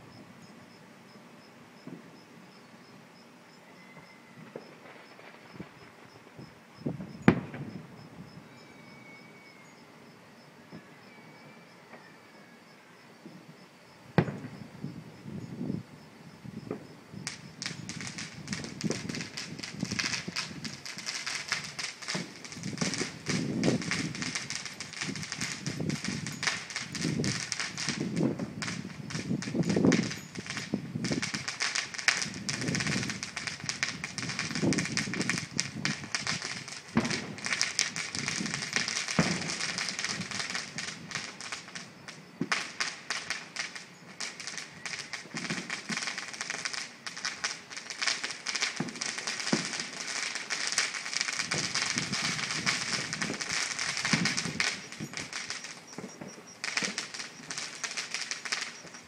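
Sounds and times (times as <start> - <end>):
fireworks crackling: 0.0 - 0.4, 4.0 - 8.6, 14.1 - 15.8, 16.5 - 59.0
fireworks bangs: 4.0 - 8.4, 14.1 - 14.7, 16.6 - 59.0.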